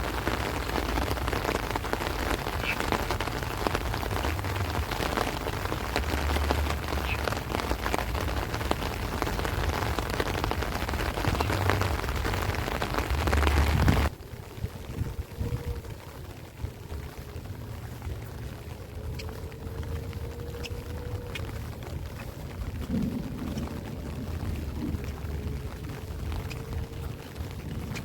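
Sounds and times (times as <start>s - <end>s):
heavy rain on plants: 0.0s - 28.0s
wind rumbling: 0.0s - 28.0s.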